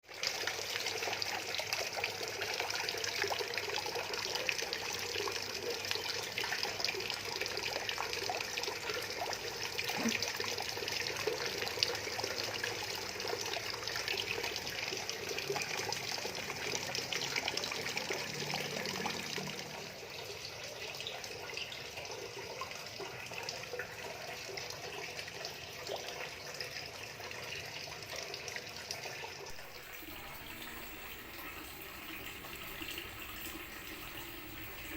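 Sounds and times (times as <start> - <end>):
water running from a tap: 0.1 - 34.9.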